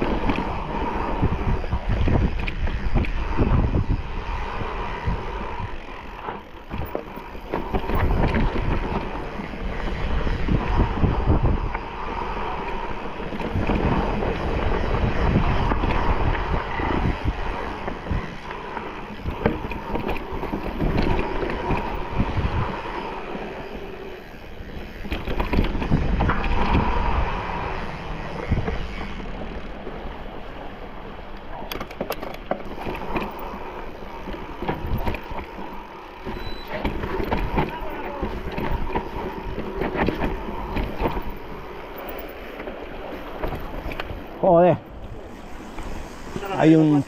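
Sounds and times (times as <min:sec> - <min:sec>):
bike rattling over bumps: 0:00.0 - 0:47.0
bike tyres on dirt and stones: 0:00.0 - 0:47.0
wind buffeting microphone: 0:00.0 - 0:47.0.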